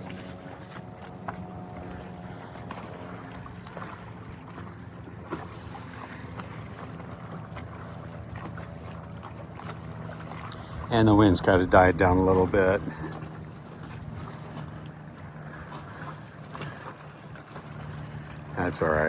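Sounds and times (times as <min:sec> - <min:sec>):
wind and water wash: 0:00.0 - 0:19.0.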